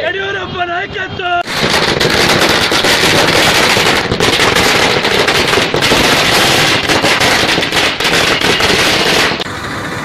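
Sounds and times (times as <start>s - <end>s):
firecrackers bursting: 1.4s - 9.5s.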